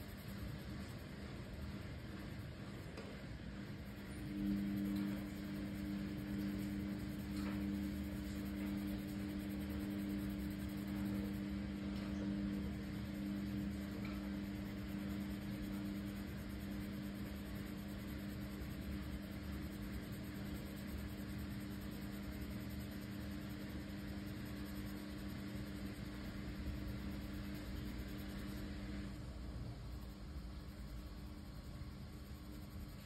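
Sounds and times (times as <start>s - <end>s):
low two-tone hum: 0.0s - 33.0s.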